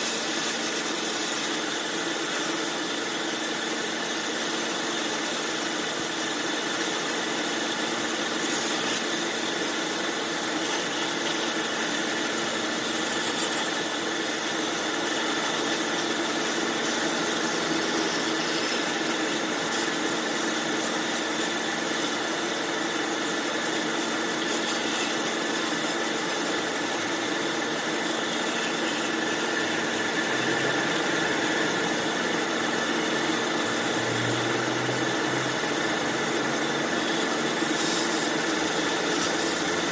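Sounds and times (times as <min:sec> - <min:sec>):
bandsaw running: 0:00.0 - 0:39.9.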